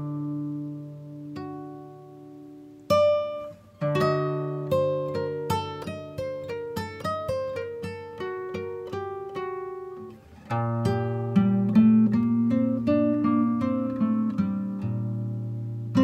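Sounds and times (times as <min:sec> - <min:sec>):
plucked acoustic guitar melody: 0:00.0 - 0:16.0.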